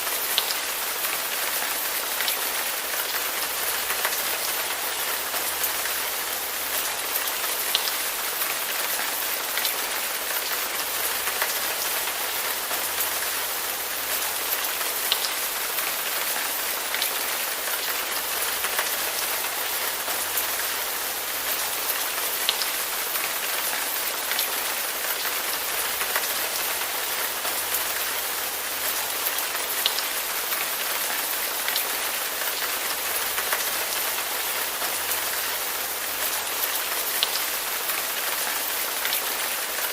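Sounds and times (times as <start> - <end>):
rain drops ticking: 0.0 - 39.9
steady rain falling: 0.0 - 39.9.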